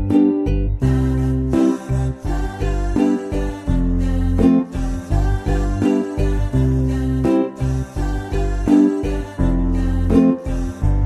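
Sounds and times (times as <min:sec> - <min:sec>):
upbeat music with bass line: 0:00.0 - 0:11.0.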